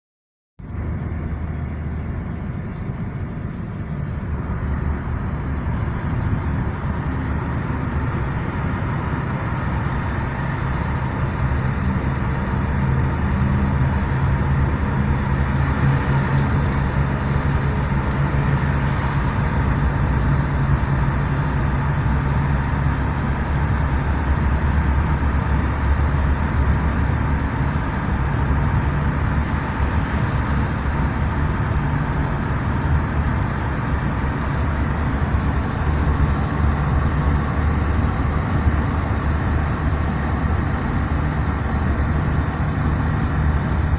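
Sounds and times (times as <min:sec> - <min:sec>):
car engine hum: 0:00.6 - 0:43.9.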